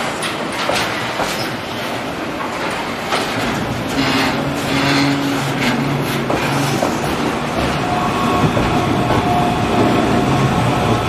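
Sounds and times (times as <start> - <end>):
train wheels clacking over rail joints: 0.0 - 10.0
rumble of rolling train wheels: 0.0 - 11.0.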